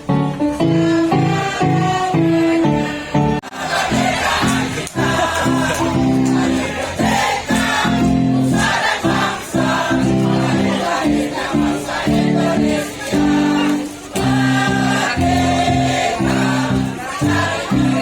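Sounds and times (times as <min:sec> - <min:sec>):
choir singing: 0:00.6 - 0:18.0.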